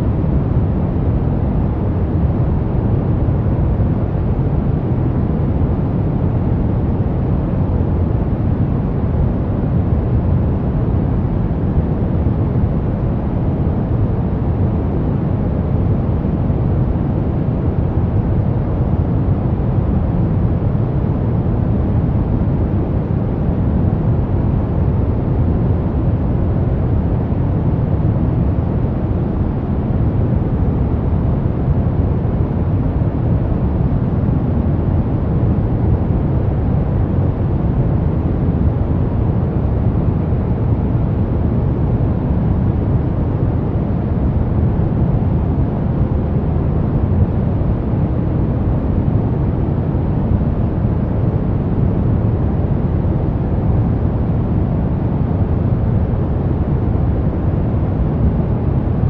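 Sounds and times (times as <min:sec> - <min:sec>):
brown noise: 0:00.0 - 0:59.0.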